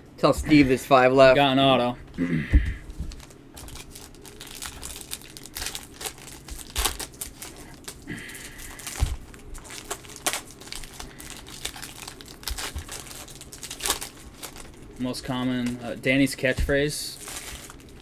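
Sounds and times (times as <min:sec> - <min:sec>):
foil wrapper crinkling and tearing: 0:03.1 - 0:18.0.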